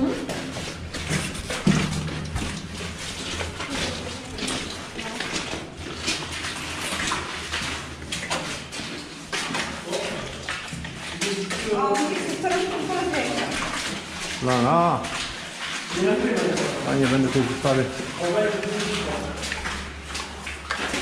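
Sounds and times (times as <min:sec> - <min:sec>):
footsteps wading through shallow water: 0:00.0 - 0:21.0.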